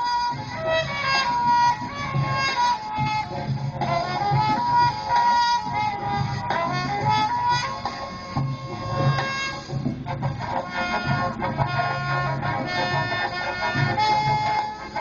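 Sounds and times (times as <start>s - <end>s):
instrumental music with bass note: 0.0s - 15.0s.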